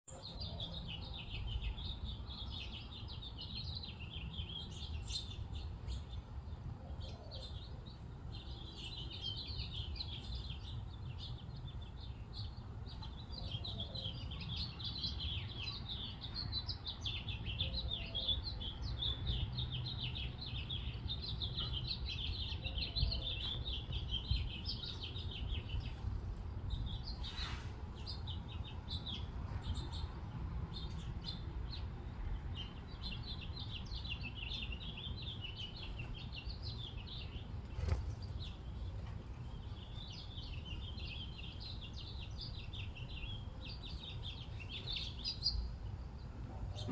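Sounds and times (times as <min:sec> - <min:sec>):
small birds chirping: 0:00.1 - 0:46.9.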